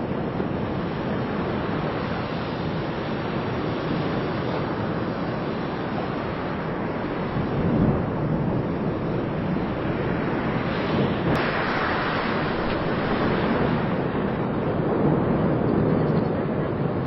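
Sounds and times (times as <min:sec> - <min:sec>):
volcano eruption rushing: 0:00.0 - 0:17.0.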